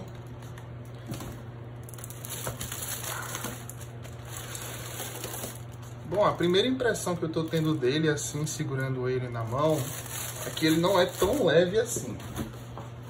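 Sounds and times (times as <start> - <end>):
bubble wrap crinkling: 0.0 - 12.6
steady low hum: 0.0 - 13.0.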